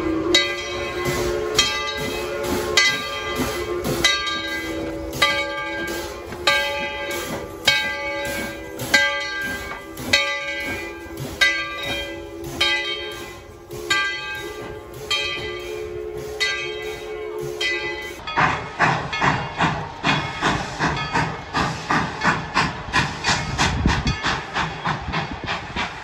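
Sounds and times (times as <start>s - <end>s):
locomotive bell ringing: 0.0s - 24.6s.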